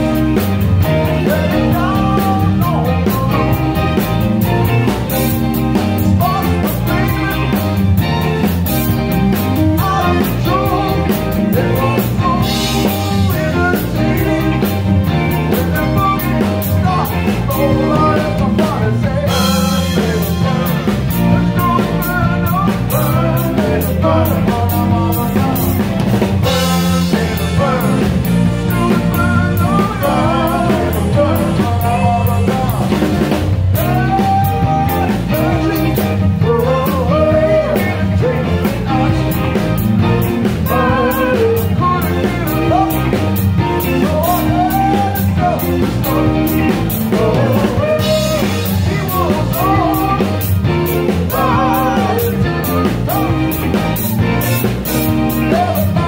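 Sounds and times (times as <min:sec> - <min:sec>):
person singing: 0:00.0 - 0:08.6, 0:09.4 - 0:56.0
drum kit beat: 0:00.0 - 0:56.0
rock band playing: 0:00.0 - 0:56.0.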